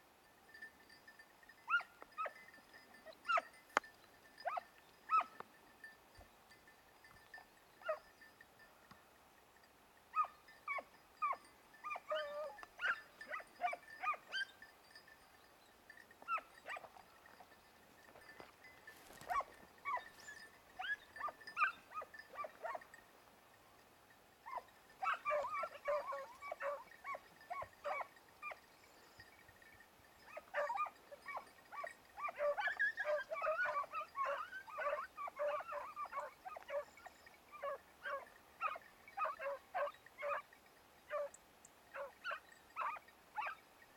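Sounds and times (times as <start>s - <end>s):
hounds yelping and baying: 1.6s - 5.4s, 7.3s - 8.4s, 10.1s - 15.2s, 15.9s - 23.0s, 24.4s - 43.8s.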